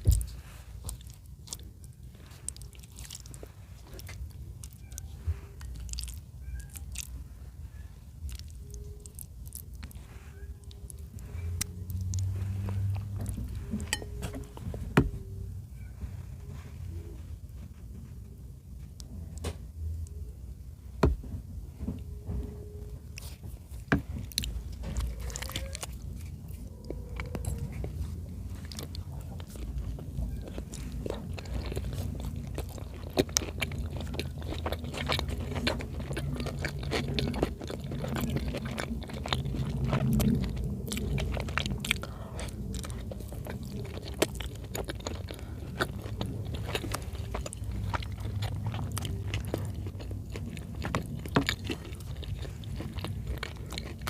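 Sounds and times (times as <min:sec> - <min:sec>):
person chewing food: 0:00.0 - 0:21.2, 0:22.0 - 0:54.0.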